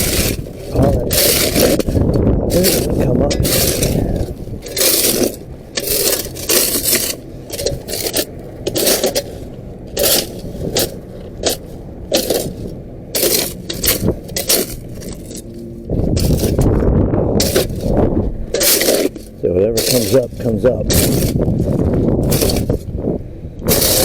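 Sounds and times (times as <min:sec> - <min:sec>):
shovel scraping dry mud: 0:00.0 - 0:16.8, 0:17.4 - 0:24.0.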